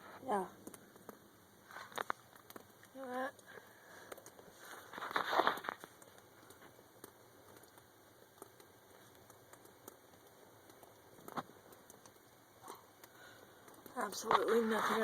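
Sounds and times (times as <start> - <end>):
water dripping into puddles: 0.0 - 15.0.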